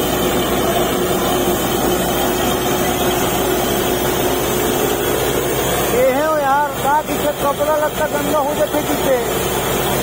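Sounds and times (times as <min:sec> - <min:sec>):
drilling rig and compressor drone: 0:00.0 - 0:10.0.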